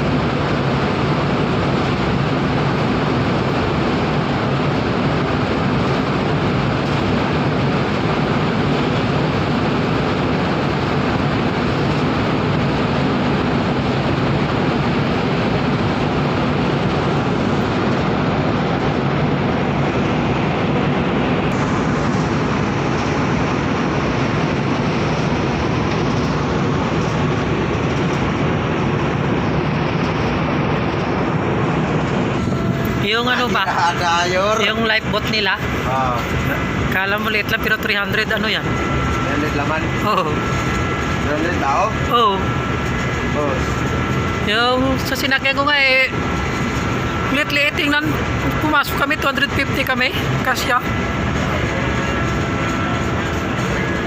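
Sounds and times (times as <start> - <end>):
loud continuous hiss: 0.0 - 54.0
low ship hum: 0.0 - 54.0.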